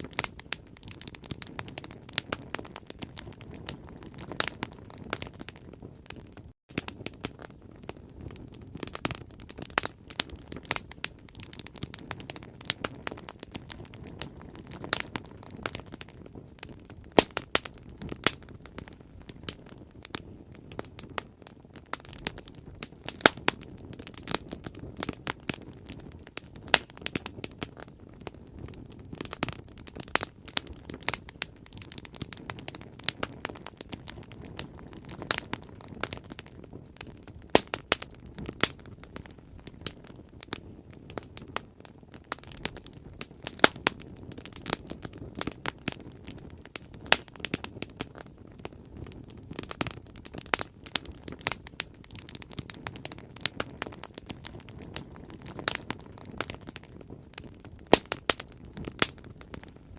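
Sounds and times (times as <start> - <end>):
bonfire crackling and popping: 0.0 - 59.9
low fire rumble: 0.0 - 59.9.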